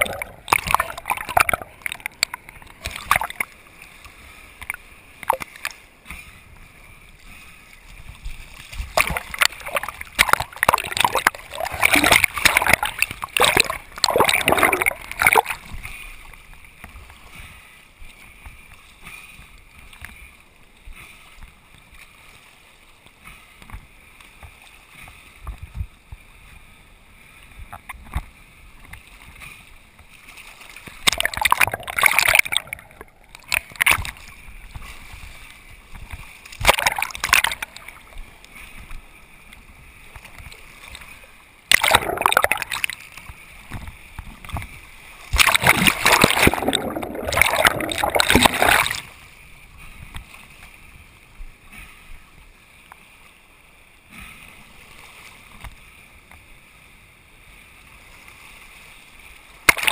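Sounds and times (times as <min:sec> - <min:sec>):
sea water splashing: 0:00.0 - 0:25.7, 0:26.4 - 0:56.7, 0:57.4 - 0:59.9
muffled water wash: 0:00.0 - 0:54.2.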